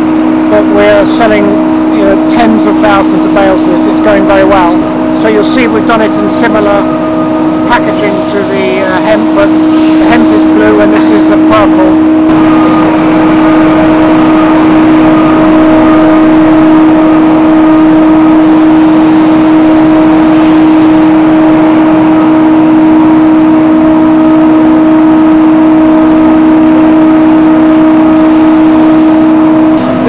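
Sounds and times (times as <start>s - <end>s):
industrial machinery drone: 0.0s - 30.0s
pitched hum: 0.0s - 30.0s.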